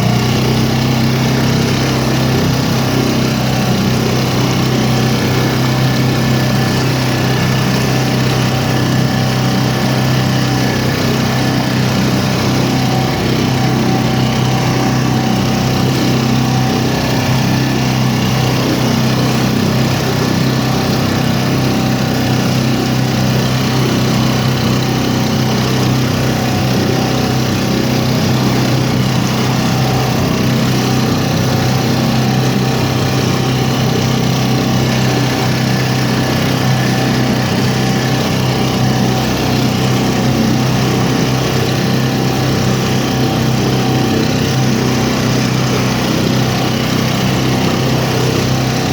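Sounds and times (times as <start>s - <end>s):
motor running steady drone: 0.0s - 48.9s.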